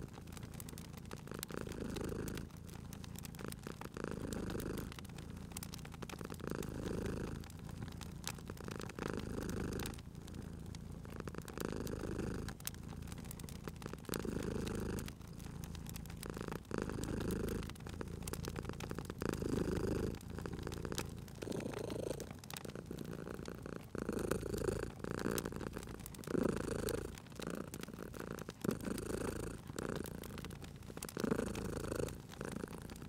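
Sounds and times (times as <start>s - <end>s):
cat purring: 0.0s - 33.0s
wood fire crackling: 0.0s - 33.0s.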